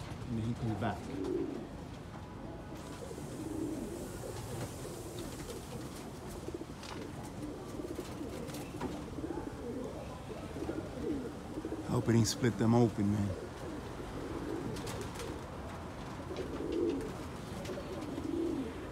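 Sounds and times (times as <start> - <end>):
pigeons cooing: 0.0 - 18.9.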